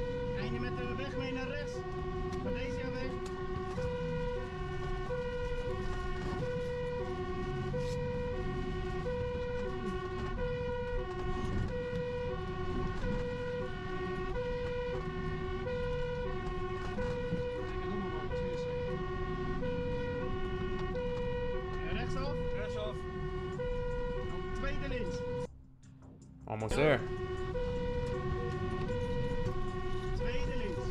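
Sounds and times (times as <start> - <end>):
two-tone siren: 0.0 - 25.5, 26.7 - 30.9
engine and road rumble: 0.0 - 30.9.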